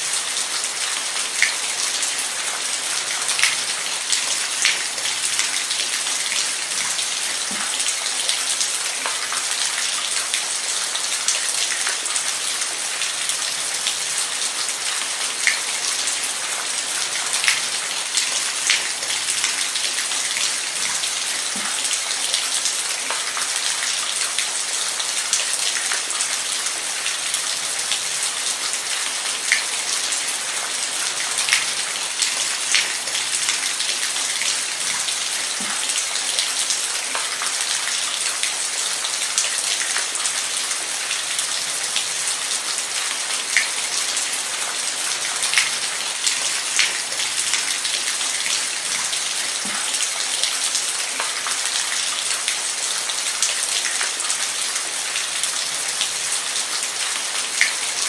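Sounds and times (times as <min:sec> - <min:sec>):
rain on a hard surface: 0:00.0 - 0:58.0.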